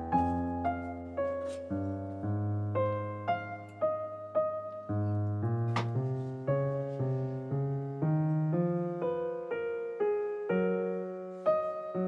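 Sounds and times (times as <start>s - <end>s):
background piano music: 0.0s - 12.0s.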